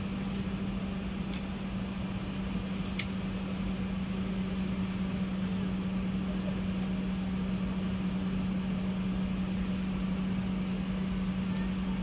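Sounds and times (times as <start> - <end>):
aircraft cabin drone: 0.0 - 12.0.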